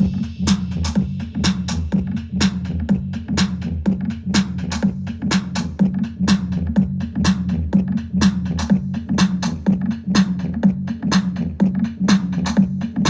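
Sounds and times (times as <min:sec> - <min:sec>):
drum machine beat: 0:00.0 - 0:13.0
electronic dance music: 0:00.0 - 0:13.0
heavy bass line: 0:00.0 - 0:13.0.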